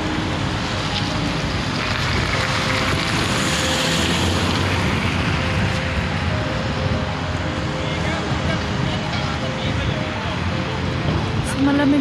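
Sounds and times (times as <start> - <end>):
cars and buses driving past: 0.0 - 12.0
wind on microphone: 1.6 - 12.0.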